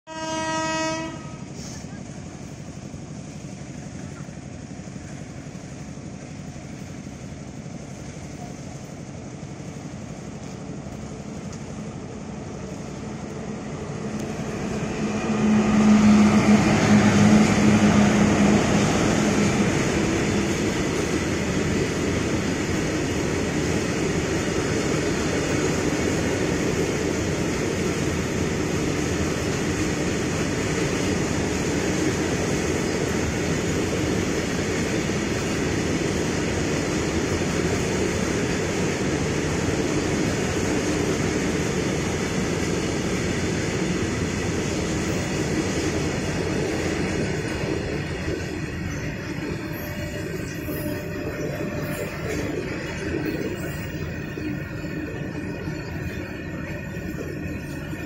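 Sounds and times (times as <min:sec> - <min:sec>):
electric locomotive humming: 0:00.1 - 0:58.0.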